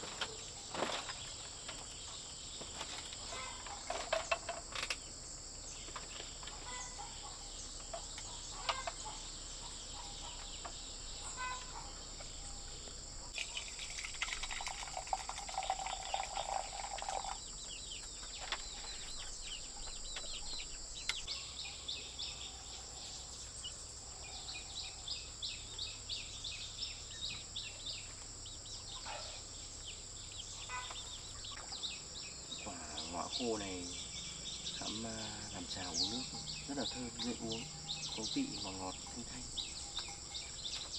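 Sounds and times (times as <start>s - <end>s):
birds chirping: 0.0s - 40.9s
crickets droning: 0.0s - 40.9s.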